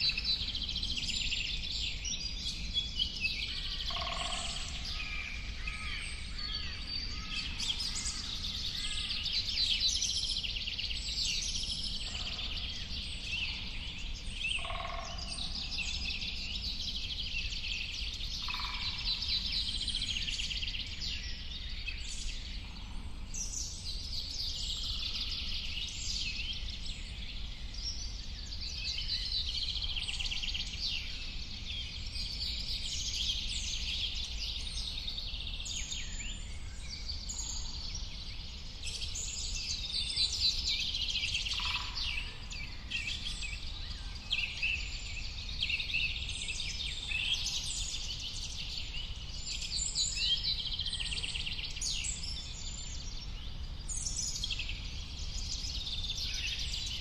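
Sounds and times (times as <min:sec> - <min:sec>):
chorus of birds singing: 0:00.0 - 0:57.0.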